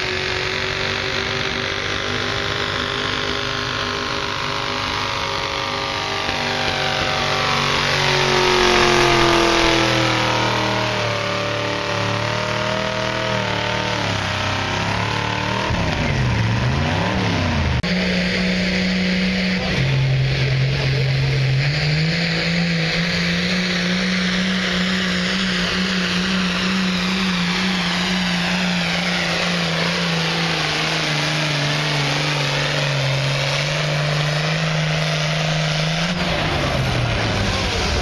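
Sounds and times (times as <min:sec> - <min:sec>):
tractor diesel engine at full throttle: 0:00.0 - 0:38.0.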